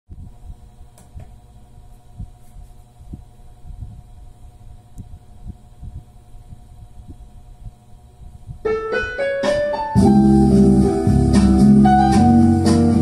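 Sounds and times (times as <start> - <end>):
faint steady hum: 0.1 - 13.0.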